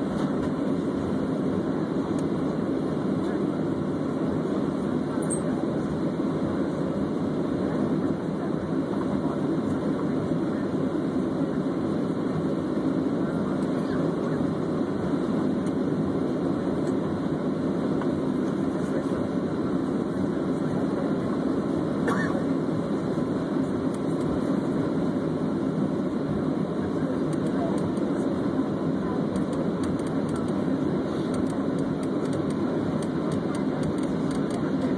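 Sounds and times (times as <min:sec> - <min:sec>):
jet engine cabin roar: 0:00.0 - 0:34.9.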